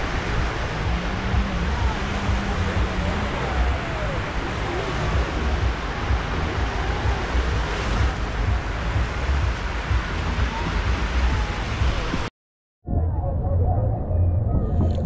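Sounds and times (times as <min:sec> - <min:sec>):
small waves washing onto beach: 0:00.0 - 0:12.3
wind buffeting microphone: 0:00.0 - 0:12.3, 0:12.9 - 0:15.0.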